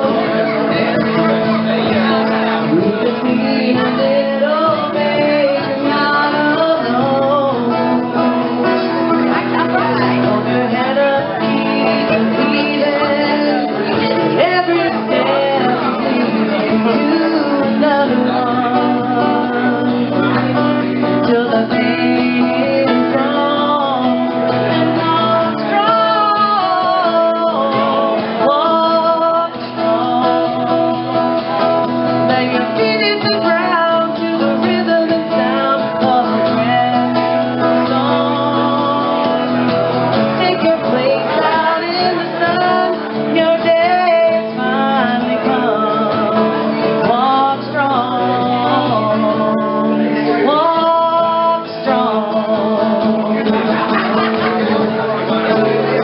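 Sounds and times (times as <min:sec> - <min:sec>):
woman singing: 0:00.0 - 0:01.2, 0:02.6 - 0:54.0
strummed acoustic guitar: 0:00.0 - 0:56.0.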